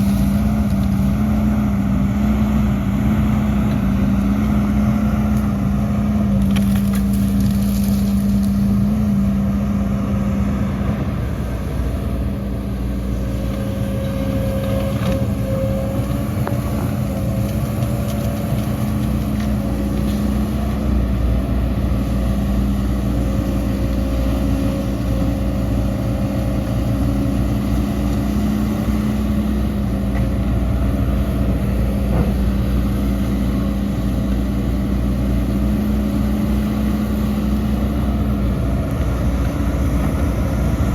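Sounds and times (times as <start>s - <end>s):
diesel machinery engine hum: 0.0s - 40.9s.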